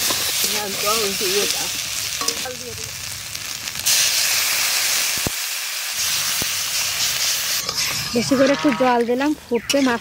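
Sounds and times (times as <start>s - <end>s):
water hissing in hot oil: 0.0s - 8.3s.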